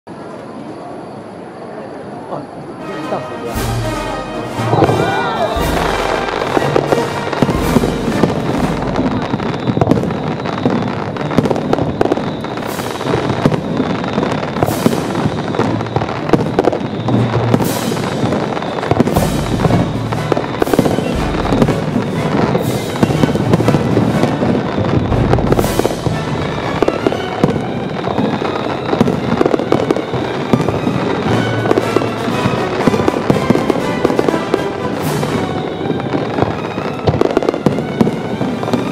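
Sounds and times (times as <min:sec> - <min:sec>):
fireworks booming and crackling: 0:00.1 - 0:38.9
music playing: 0:02.8 - 0:10.3, 0:14.5 - 0:38.9.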